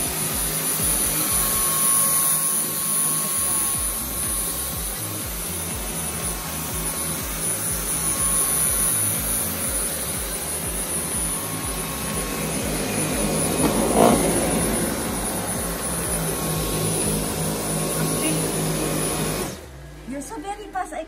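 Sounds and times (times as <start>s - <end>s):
stick vacuum running on carpet: 0.0s - 21.0s.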